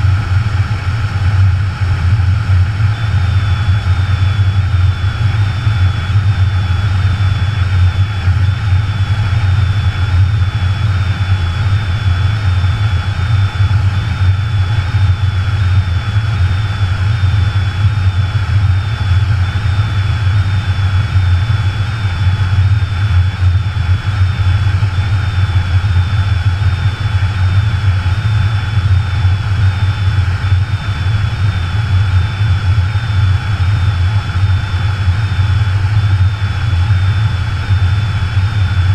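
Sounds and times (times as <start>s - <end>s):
low rumbling wind noise: 0.0s - 38.9s.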